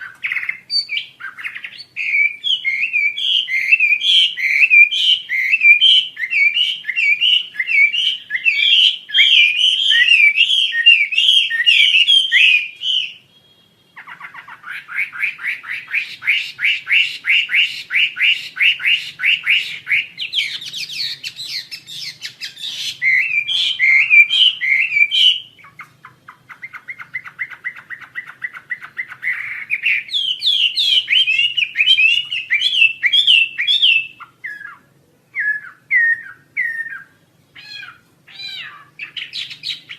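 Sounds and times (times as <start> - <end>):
songbird warbling and trilling: 0.0 - 39.9.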